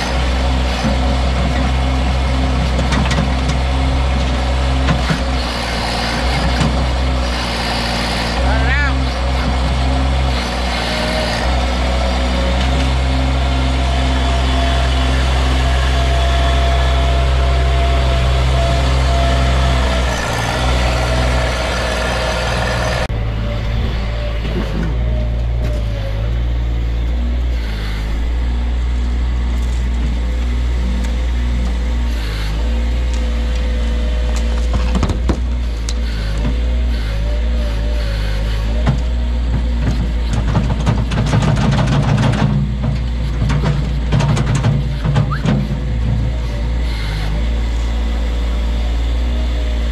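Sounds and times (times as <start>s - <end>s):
diesel engine running under load: 0.0s - 49.9s
steady mechanical whine: 0.0s - 49.9s.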